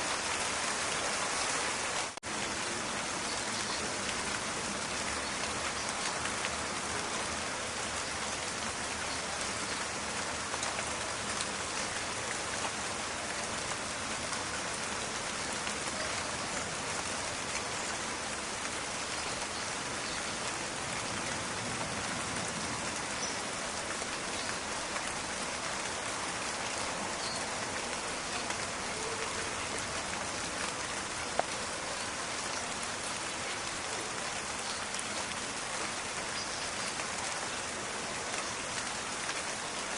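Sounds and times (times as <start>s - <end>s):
rain falling on forest: 0.0s - 39.9s.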